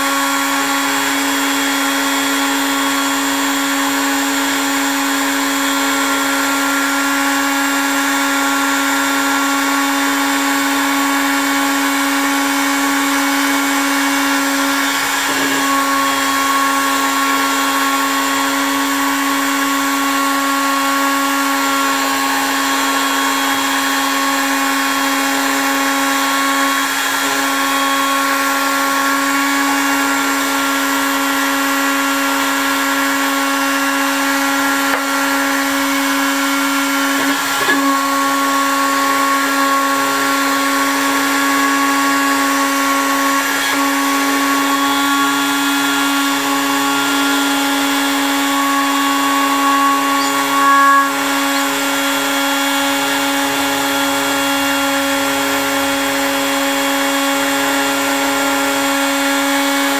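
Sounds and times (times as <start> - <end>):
heat gun motor hum: 0.0 - 58.8.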